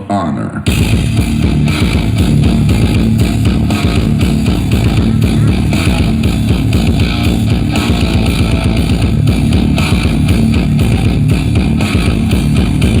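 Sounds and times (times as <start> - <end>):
guitar: 0.6 - 13.0
loud music with heavy bass: 0.6 - 13.0.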